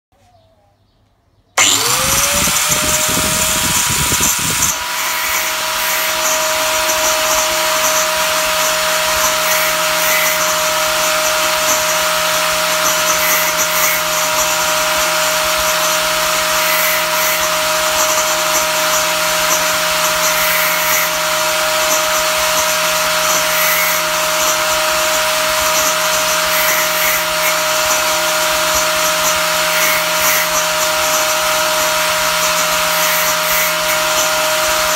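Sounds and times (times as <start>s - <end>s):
angle grinder whining: 1.6s - 34.9s.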